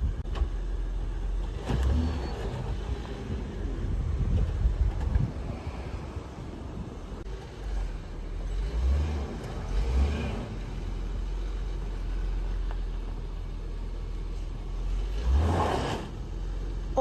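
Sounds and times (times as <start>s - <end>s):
car rumbling in motion: 0.0s - 17.0s.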